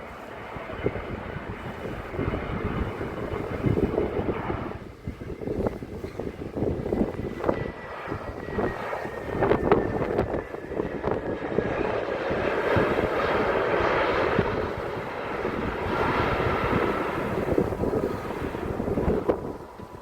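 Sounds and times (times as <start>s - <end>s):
jet airliner passing: 0.0s - 20.0s.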